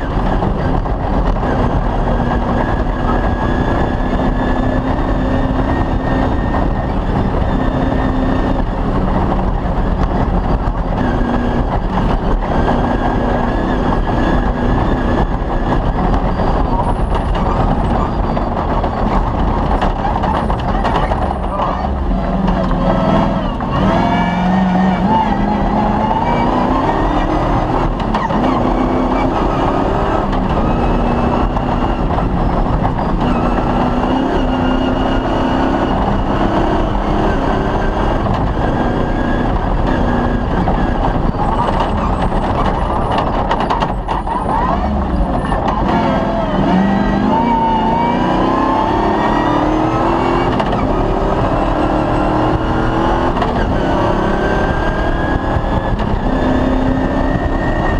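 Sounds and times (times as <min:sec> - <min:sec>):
engine revving under load: 0:00.0 - 0:57.9
road and wind noise: 0:00.0 - 0:57.9.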